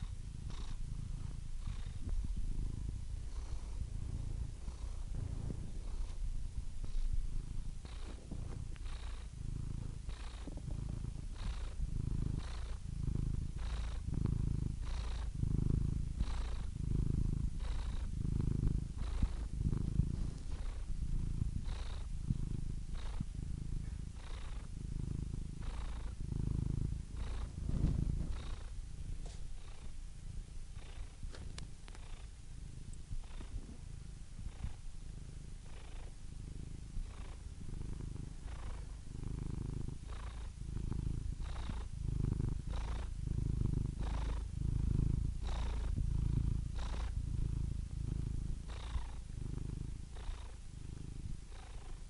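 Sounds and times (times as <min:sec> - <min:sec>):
cat purring: 0:00.0 - 0:52.0.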